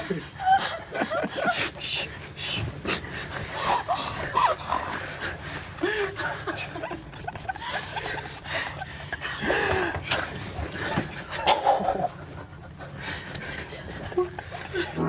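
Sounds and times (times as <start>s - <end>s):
stifled laughter: 0.0s - 2.0s, 3.5s - 15.0s
people gasping and squealing: 0.0s - 15.0s.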